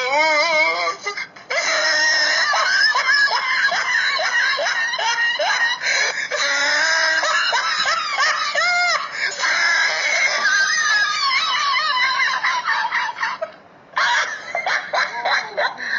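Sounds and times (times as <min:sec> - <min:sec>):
high-pitched cackling laughter: 0:00.0 - 0:15.9.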